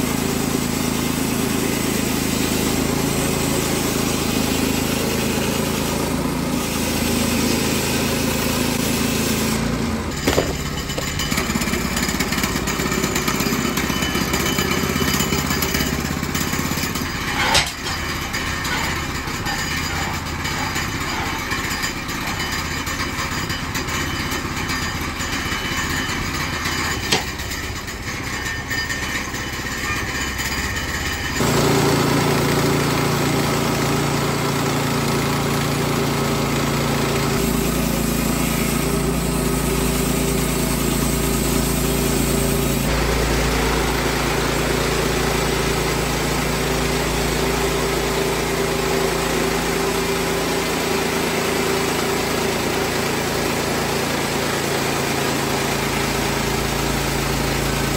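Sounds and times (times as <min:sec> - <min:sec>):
sawmill engine cutting log: 0:00.0 - 0:57.9.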